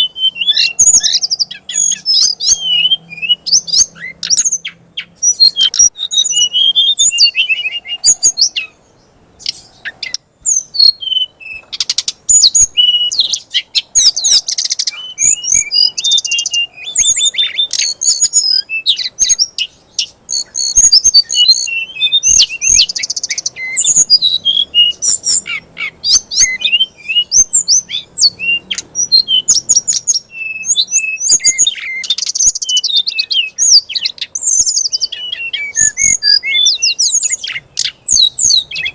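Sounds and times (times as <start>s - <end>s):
harsh buzzy bird trills: 0.0s - 38.9s
songbird chirping and whistling: 0.0s - 38.9s.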